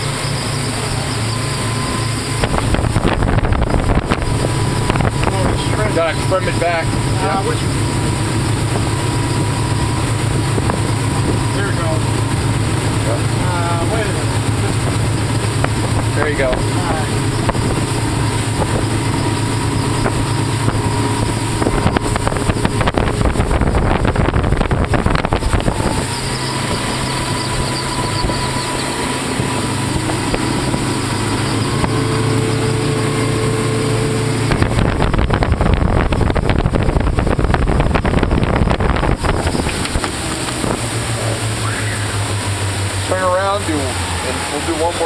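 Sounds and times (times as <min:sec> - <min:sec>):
outboard motors humming: 0:00.0 - 0:45.0
rush of wind and water: 0:00.0 - 0:45.0.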